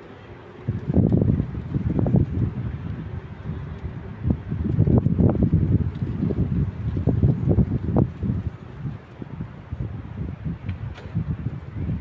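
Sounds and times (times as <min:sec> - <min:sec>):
city noise: 0:00.0 - 0:12.0
wind buffeting microphone: 0:00.0 - 0:12.0.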